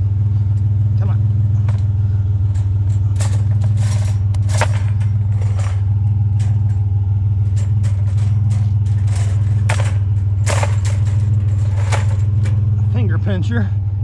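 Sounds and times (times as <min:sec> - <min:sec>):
sharp clanks and rattles: 0:00.0 - 0:14.0
truck engine humming: 0:00.0 - 0:14.0.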